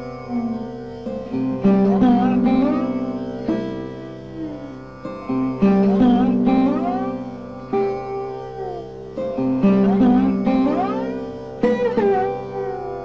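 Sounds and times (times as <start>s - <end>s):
plucked sarod notes: 0.0s - 13.0s
tanpura drone: 0.0s - 13.0s.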